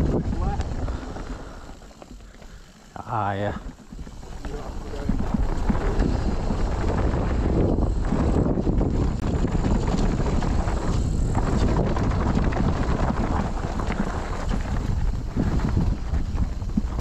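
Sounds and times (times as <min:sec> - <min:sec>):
bike rattling knocks: 0:00.0 - 0:17.0
tyre noise on dirt: 0:00.0 - 0:17.0
wind on microphone: 0:00.0 - 0:17.0.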